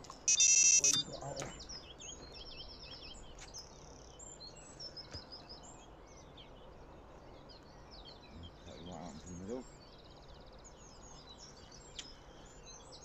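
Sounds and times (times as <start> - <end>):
faint outdoor hiss: 0.0 - 13.0
songbirds chirping and singing: 0.0 - 13.0.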